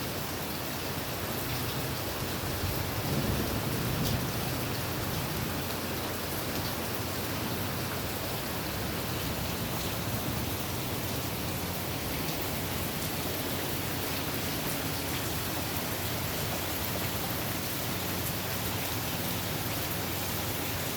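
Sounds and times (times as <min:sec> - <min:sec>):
heavy rain pattering: 0:00.2 - 0:20.9.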